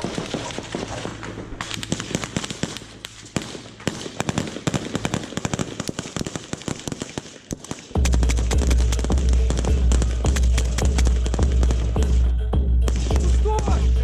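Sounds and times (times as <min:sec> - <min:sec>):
rifle gunfire: 0:00.0 - 0:12.2, 0:12.8 - 0:13.8.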